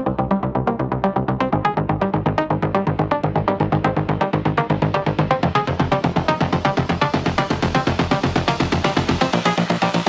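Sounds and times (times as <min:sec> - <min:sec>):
deep bass: 0:00.0 - 0:10.0.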